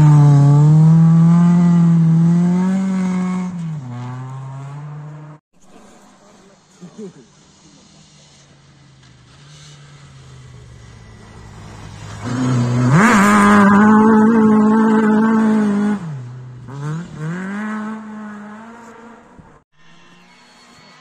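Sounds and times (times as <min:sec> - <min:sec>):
rally car engine at full throttle: 0:00.0 - 0:20.0.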